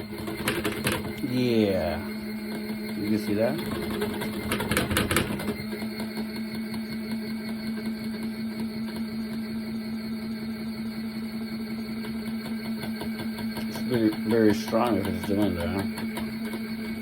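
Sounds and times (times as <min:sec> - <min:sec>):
washing machine motor humming: 0:00.0 - 0:17.0.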